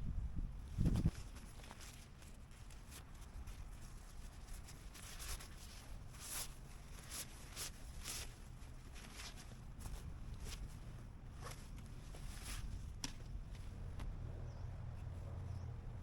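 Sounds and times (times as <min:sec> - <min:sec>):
tent fabric rustling: 0:00.7 - 0:14.0.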